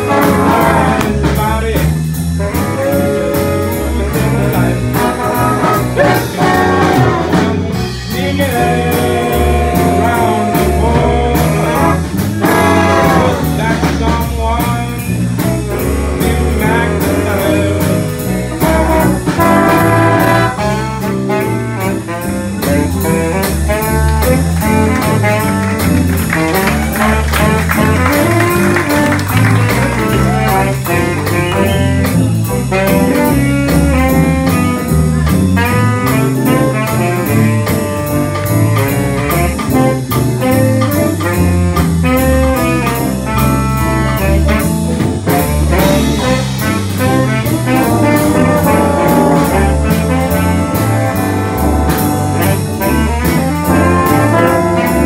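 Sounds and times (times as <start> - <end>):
big band playing jazz: 0.0 - 55.0.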